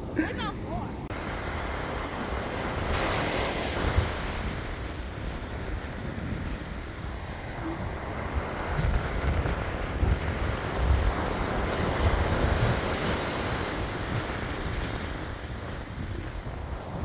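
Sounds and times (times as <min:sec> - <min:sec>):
ocean surf washing ashore: 0:00.0 - 0:17.0
wind rumbling on microphone: 0:00.0 - 0:17.0.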